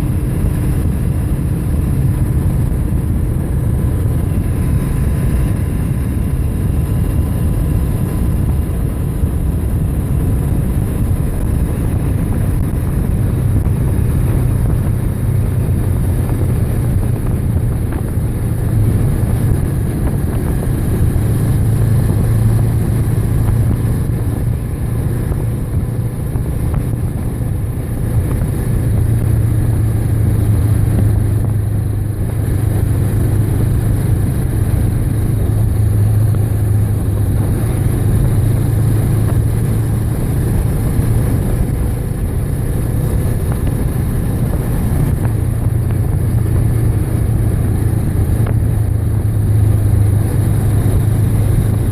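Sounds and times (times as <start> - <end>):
motorcycle engine drone: 0.0 - 51.9
wind rumble on microphone: 0.0 - 51.9.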